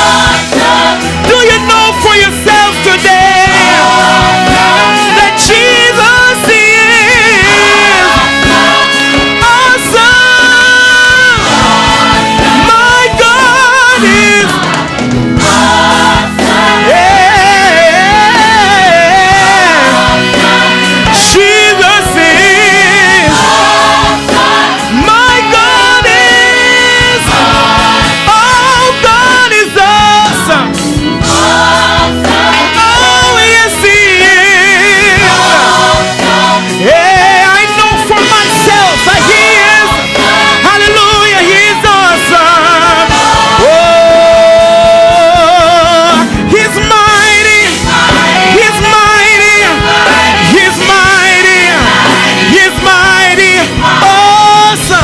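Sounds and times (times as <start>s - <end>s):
full band playing: 0.0s - 55.0s
gospel singing with choir: 0.0s - 55.0s.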